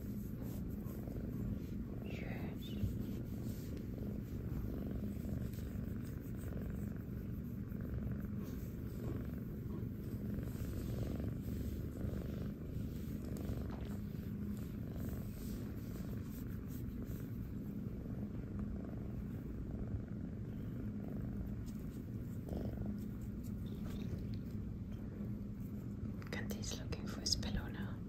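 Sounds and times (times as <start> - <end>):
kitten purring: 0.0 - 28.0.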